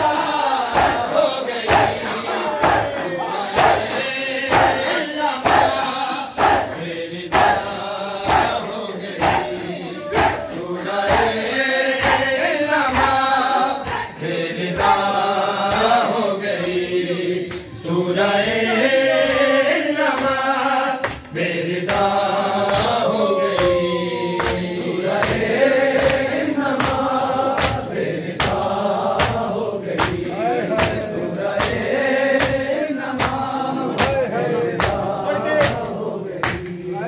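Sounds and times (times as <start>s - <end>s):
men chanting: 0.0s - 37.0s.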